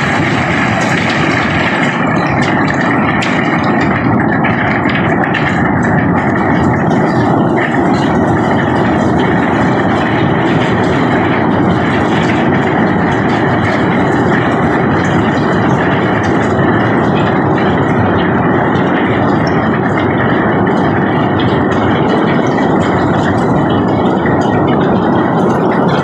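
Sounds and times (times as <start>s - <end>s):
diesel machinery running: 0.0s - 26.0s.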